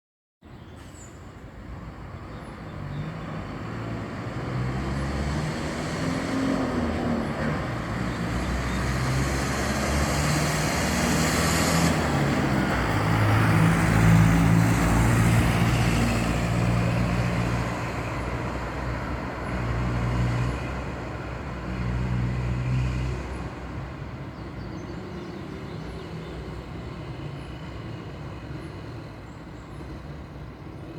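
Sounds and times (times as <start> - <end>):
bus diesel engine under load: 0.5 - 30.9.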